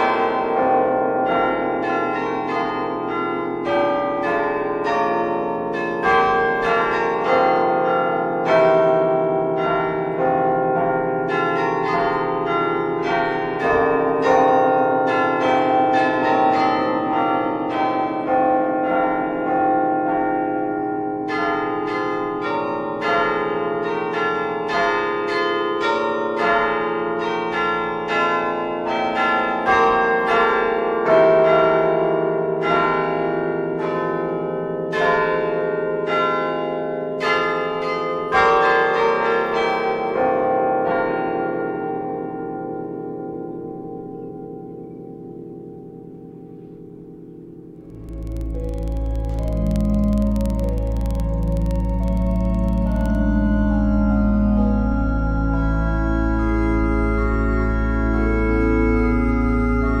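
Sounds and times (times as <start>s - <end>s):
bells ringing: 0.0s - 57.7s.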